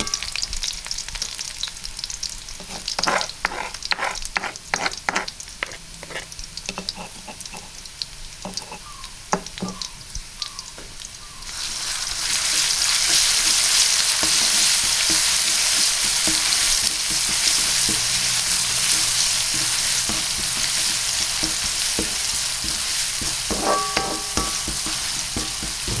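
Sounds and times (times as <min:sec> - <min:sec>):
chili paste sizzling in oil: 0:00.0 - 0:26.0.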